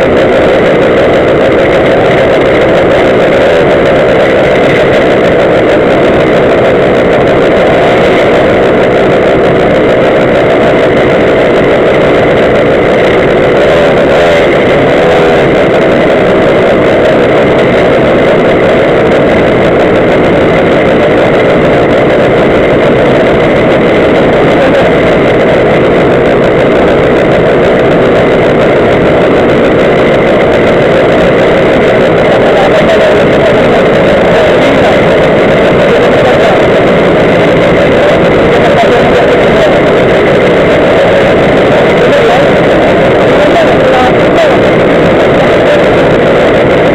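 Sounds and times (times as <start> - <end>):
small two-stroke engines idling: 0.0 - 46.2.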